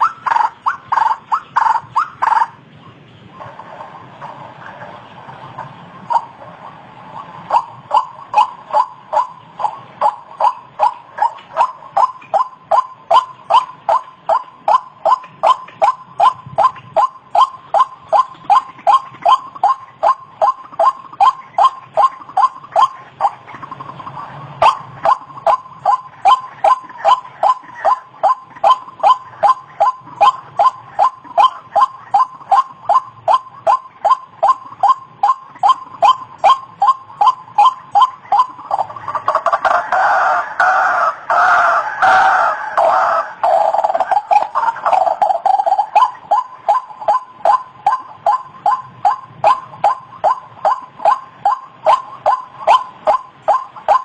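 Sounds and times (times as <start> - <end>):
bird calling repeated notes: 0.0 - 54.0.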